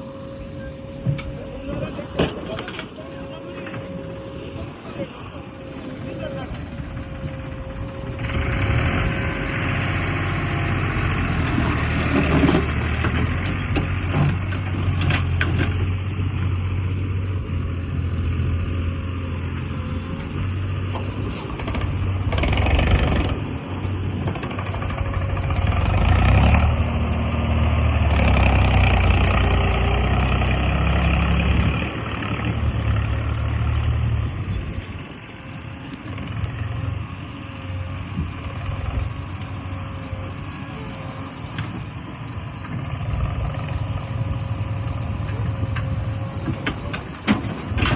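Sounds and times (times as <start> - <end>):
heavy diesel machinery engine running: 0.0 - 47.9.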